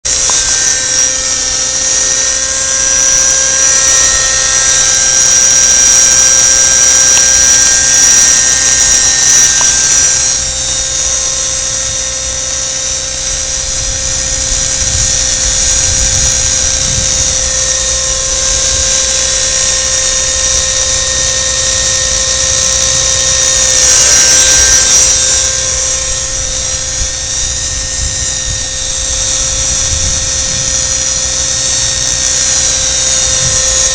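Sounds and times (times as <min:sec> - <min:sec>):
model helicopter whine: 0:00.0 - 0:33.9.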